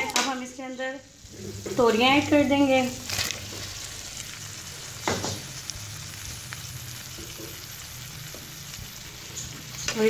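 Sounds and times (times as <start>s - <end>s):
oil and masala sizzling: 0.0s - 10.0s.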